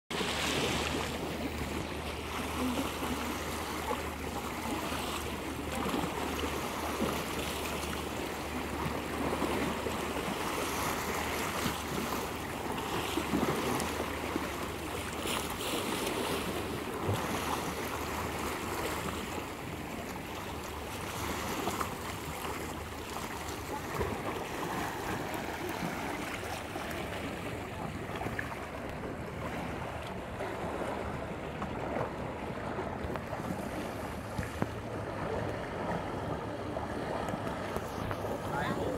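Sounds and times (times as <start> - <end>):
small waves lapping: 0.1 - 38.9.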